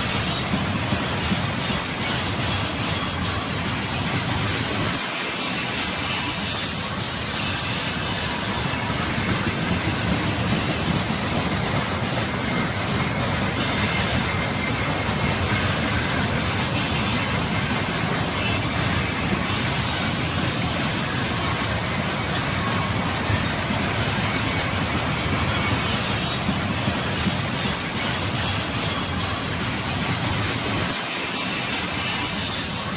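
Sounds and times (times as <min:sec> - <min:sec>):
freight train wheels on rails: 0:00.0 - 0:32.9.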